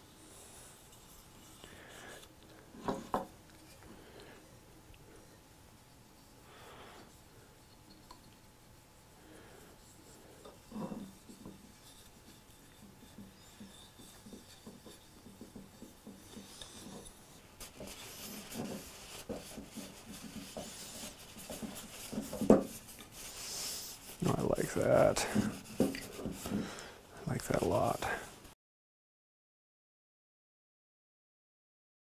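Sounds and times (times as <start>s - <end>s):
rubbing and scraping on wood: 0.0s - 4.0s, 5.2s - 28.5s.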